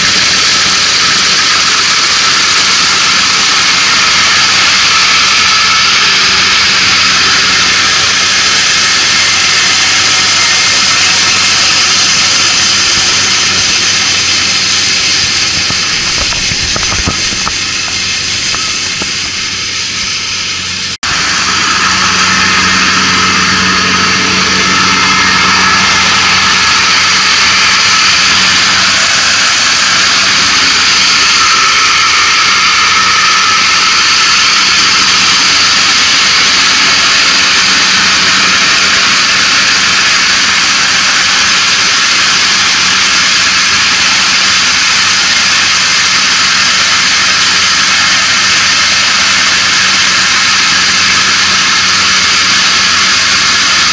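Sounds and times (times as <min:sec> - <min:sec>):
combine harvester engine and threshing: 0:00.0 - 0:53.9.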